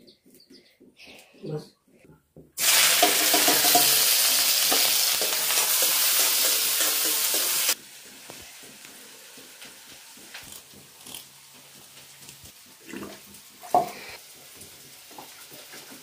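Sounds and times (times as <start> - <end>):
onions sizzling in a hot pan: 2.6 - 16.0.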